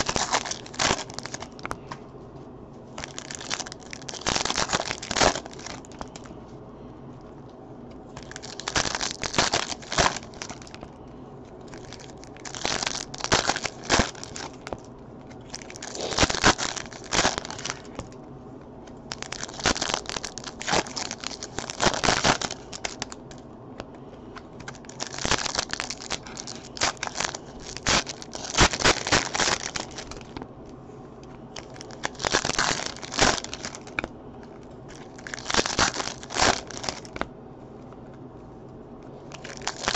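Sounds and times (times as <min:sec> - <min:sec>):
foil wrappers crinkling: 0:00.0 - 0:02.0, 0:03.0 - 0:06.4, 0:08.2 - 0:18.2, 0:19.1 - 0:23.4, 0:24.4 - 0:30.4, 0:31.5 - 0:37.3, 0:39.3 - 0:39.9.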